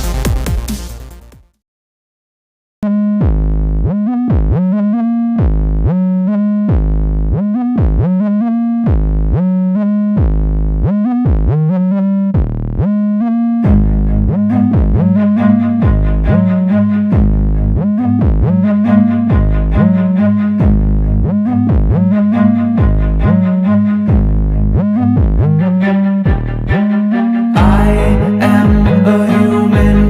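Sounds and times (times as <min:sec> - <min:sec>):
heavy bass: 0:00.0 - 0:01.6, 0:02.8 - 0:30.0
synthesizer line: 0:02.8 - 0:30.0.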